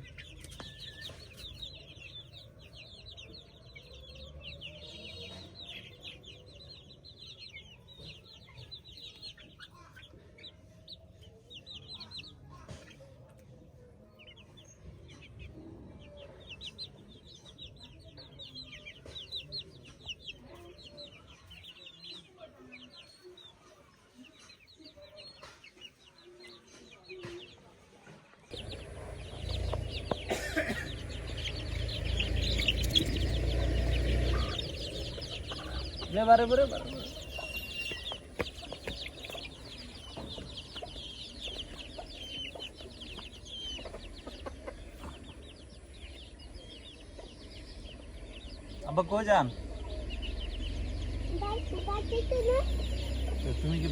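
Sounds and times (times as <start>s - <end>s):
chickens calling and clucking: 0.0s - 53.9s.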